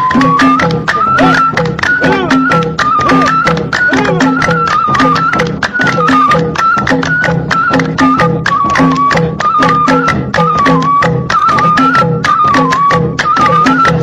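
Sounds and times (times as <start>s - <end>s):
melody over percussion beat: 0.0s - 14.0s.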